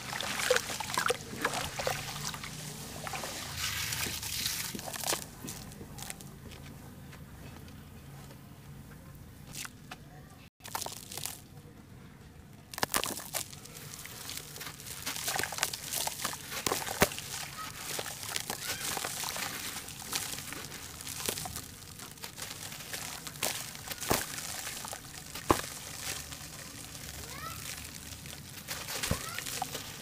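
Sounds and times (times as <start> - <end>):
charcoal ash crunching by hand: 0.0 - 6.6, 10.6 - 11.5, 12.6 - 30.0.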